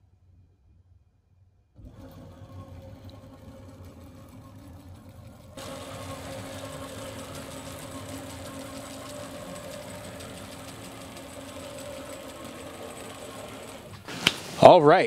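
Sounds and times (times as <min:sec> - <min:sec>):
stepper motors whirring: 0:01.8 - 0:14.7.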